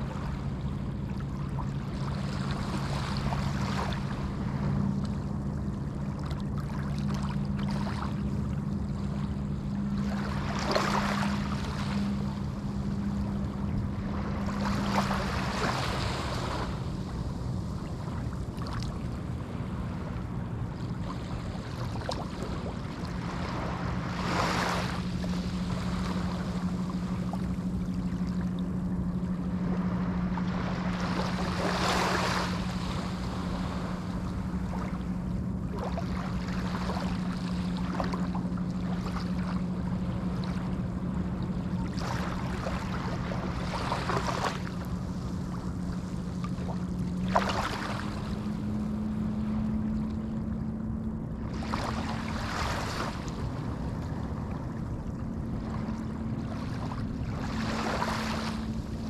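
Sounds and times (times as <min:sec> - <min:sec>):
waves breaking on beach: 0:00.0 - 0:05.4, 0:06.0 - 0:50.6, 0:51.3 - 0:59.0
low motor hum: 0:00.0 - 0:59.0.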